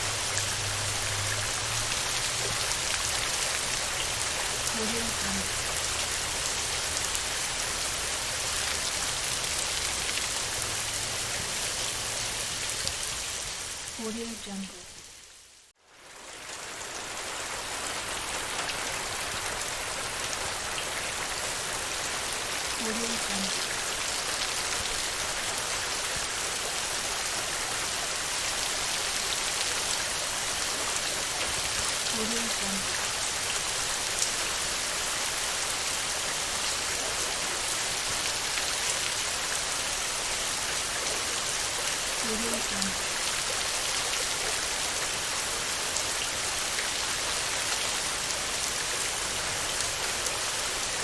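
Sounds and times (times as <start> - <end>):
heavy rain on a tin roof: 0.0 - 51.0.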